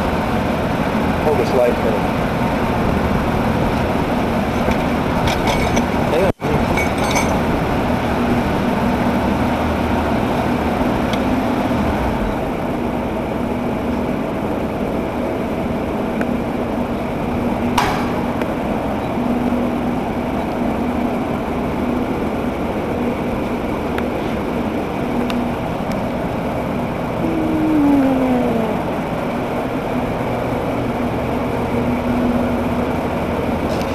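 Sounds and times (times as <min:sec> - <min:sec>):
steady mechanical hum: 0:00.0 - 0:33.9.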